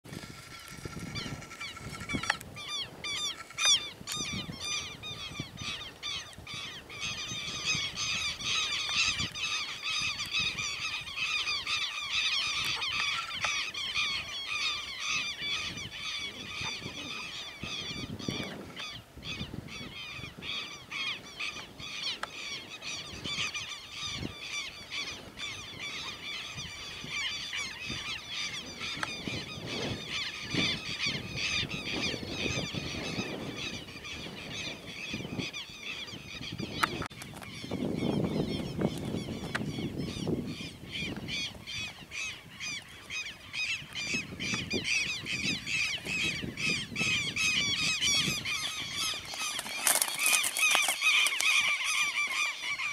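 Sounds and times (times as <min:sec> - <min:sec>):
birds calling: 0:00.0 - 0:52.9.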